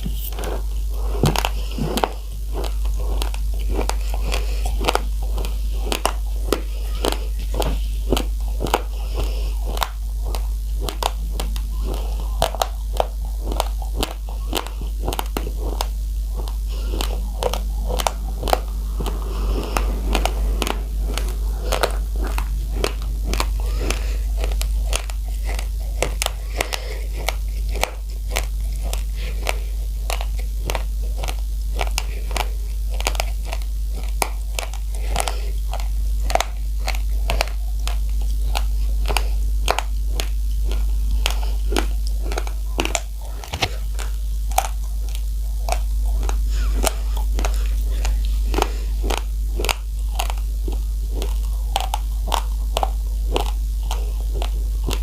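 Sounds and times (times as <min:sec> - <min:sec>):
chewing crunchy rice grains: 0:00.0 - 0:55.0
steady low hum: 0:00.0 - 0:55.0.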